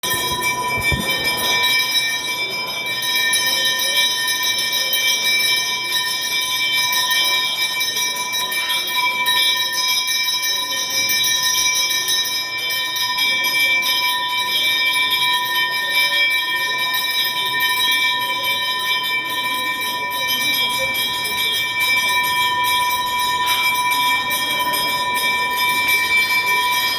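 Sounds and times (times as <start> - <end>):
bell ringing rapidly: 0.0 - 26.9.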